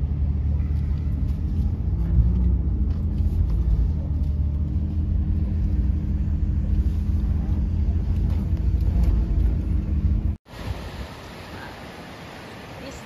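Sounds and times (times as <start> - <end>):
vehicle engine and tyres on sand: 0.0 - 13.0.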